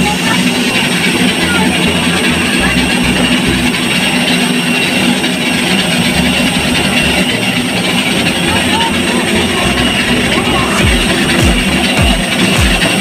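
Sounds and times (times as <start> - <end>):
high whistling tones: 0.0 - 13.0
jet turbine roar: 0.0 - 13.0
low hum: 0.0 - 13.0.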